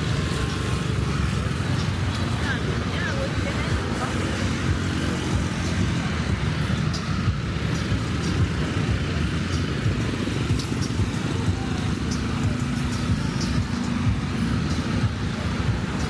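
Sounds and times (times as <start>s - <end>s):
vehicle engines passing: 0.0s - 16.0s.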